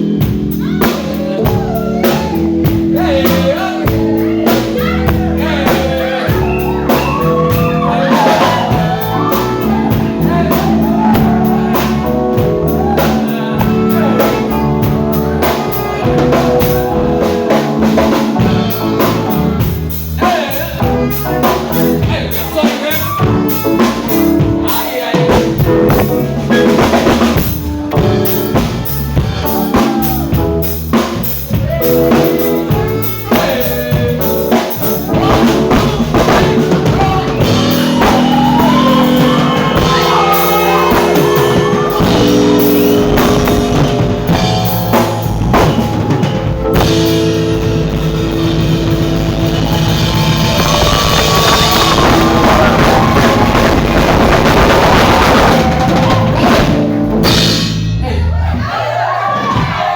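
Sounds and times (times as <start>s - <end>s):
drum kit: 0.0s - 58.2s
keyboard chords: 0.0s - 59.2s
bass: 0.0s - 59.9s.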